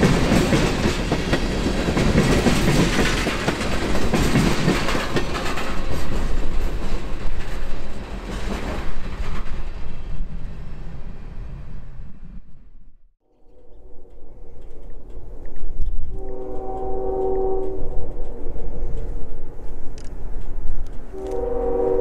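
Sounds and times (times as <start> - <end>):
freight train wheels clattering: 0.0 - 10.1, 13.5 - 22.0.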